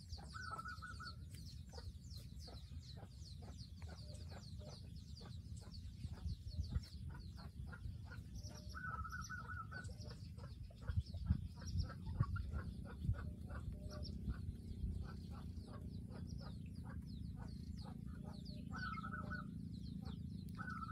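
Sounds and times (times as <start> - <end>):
chickens clucking: 0.0 - 20.9
low microphone rumble: 0.0 - 20.9
small birds chirping: 0.0 - 20.9.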